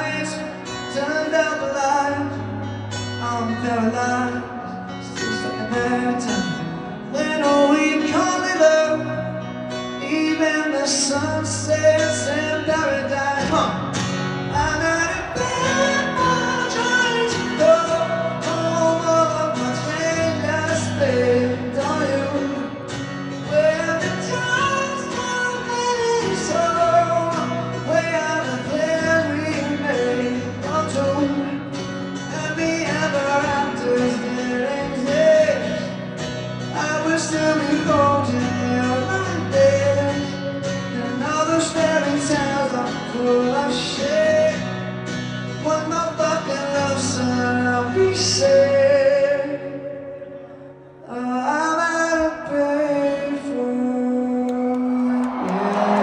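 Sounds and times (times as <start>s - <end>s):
person singing: 0.0s - 36.0s, 45.6s - 56.0s
strummed acoustic guitar: 0.0s - 56.0s.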